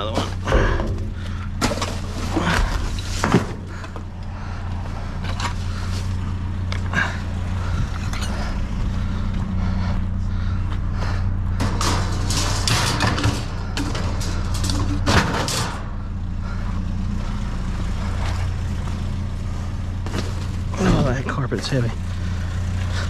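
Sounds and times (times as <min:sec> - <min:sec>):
truck engine humming: 0:00.0 - 0:23.0
rustling clatter: 0:00.1 - 0:23.0.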